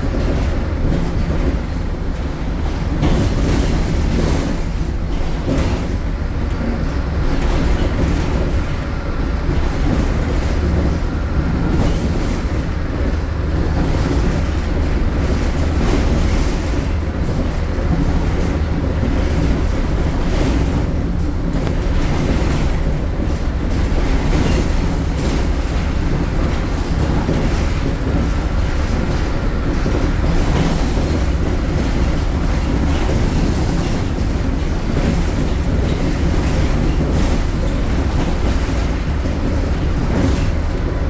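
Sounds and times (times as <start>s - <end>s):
bus body rattles: 0.0s - 41.0s
bus diesel engine drone: 0.0s - 41.0s.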